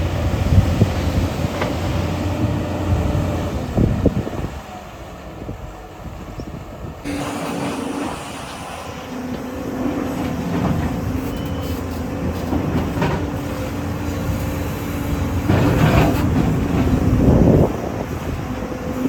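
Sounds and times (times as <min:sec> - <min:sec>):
excavator diesel engine running: 0:00.0 - 0:19.0
hydraulics working: 0:01.0 - 0:19.0.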